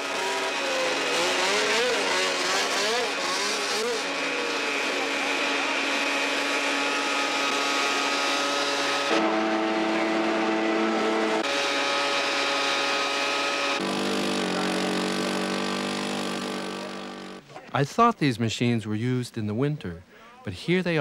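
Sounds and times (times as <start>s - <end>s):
snowmobile engines running: 0.0s - 18.1s.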